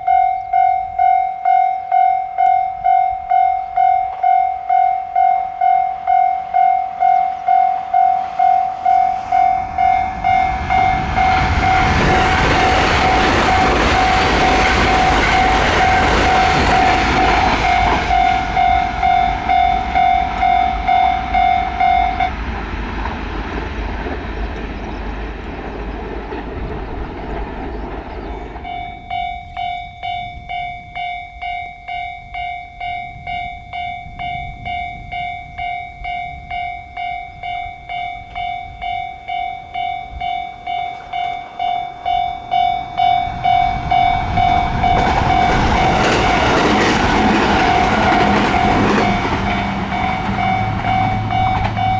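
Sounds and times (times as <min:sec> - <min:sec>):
level-crossing alarm ringing: 0:00.0 - 0:22.9, 0:27.9 - 0:51.9
passing train rushing: 0:00.0 - 0:51.9.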